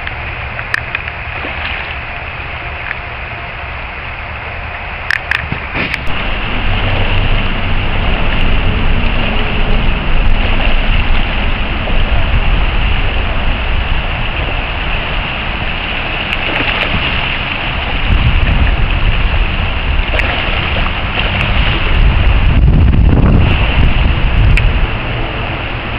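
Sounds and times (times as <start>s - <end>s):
river water rushing over rocks: 0.0s - 25.9s
wind rumble on microphone: 0.0s - 25.9s.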